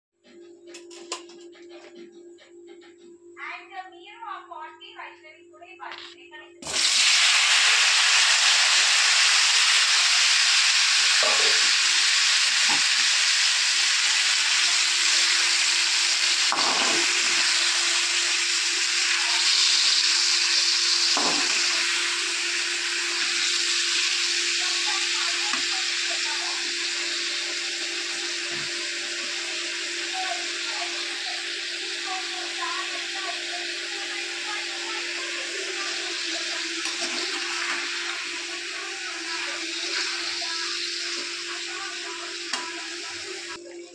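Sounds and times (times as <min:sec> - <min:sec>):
tomatoes sizzling in hot oil: 0:06.6 - 0:43.6.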